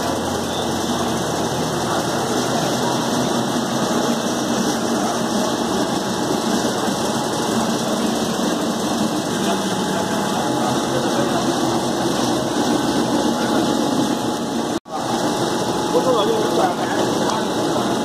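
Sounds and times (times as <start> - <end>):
oil press mechanical drone: 0.0 - 18.0.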